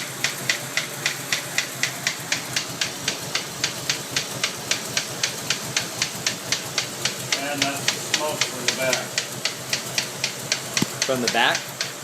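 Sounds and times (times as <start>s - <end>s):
car engine idling: 0.0s - 12.0s
sharp regular engine knock: 0.0s - 12.0s.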